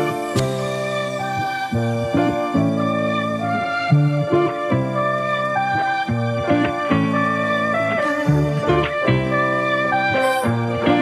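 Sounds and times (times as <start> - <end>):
music with sustained chords: 0.0 - 11.0.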